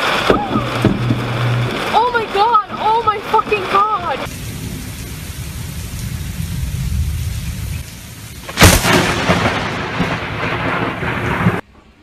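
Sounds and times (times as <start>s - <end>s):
loud thunderclap: 0.0s - 12.0s
rolling thunder rumble: 0.0s - 12.0s.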